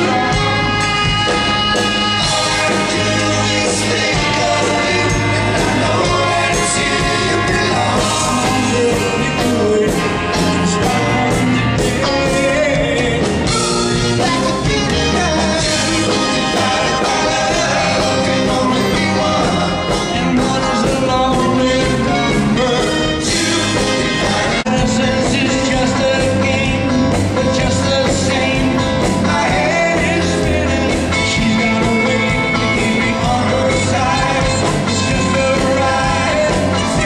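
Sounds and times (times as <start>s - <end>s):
rock and roll band playing: 0.0s - 37.0s.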